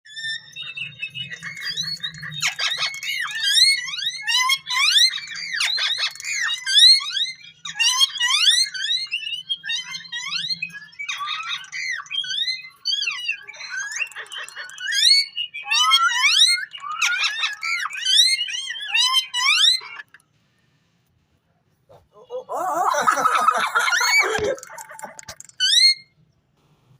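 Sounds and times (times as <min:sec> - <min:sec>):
parakeet chattering and whistling: 0:00.1 - 0:20.1, 0:21.9 - 0:26.0.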